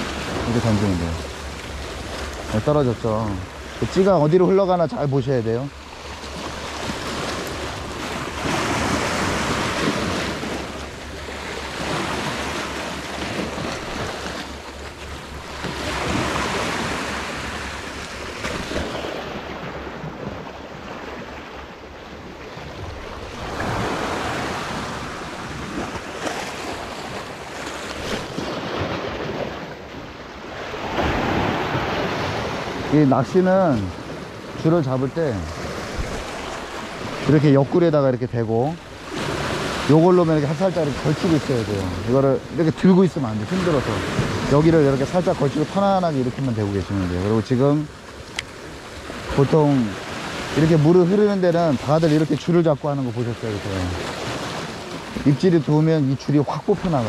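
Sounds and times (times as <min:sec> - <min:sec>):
waves washing against rocks: 0:00.0 - 0:21.6, 0:22.6 - 0:29.8, 0:30.4 - 0:57.0.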